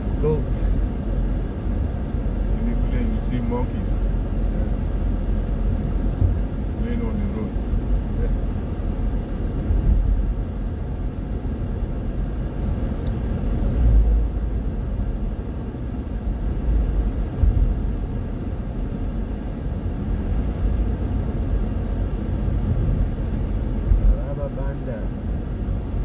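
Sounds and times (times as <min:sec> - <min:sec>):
car interior road rumble: 0:00.0 - 0:26.0.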